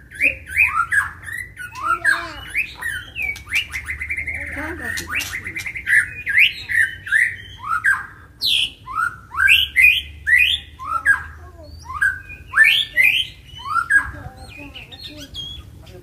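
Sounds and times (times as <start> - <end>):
bird singing whistled notes: 0.0 - 15.7.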